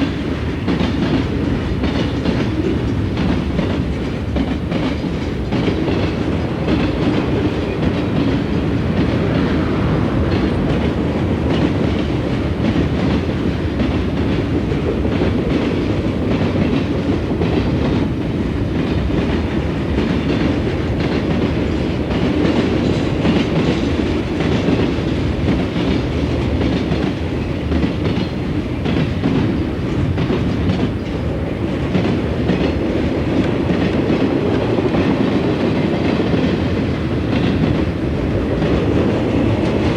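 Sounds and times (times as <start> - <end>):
freight train rolling past: 0.0 - 39.9
train wheels clattering over rail joints: 0.0 - 39.9.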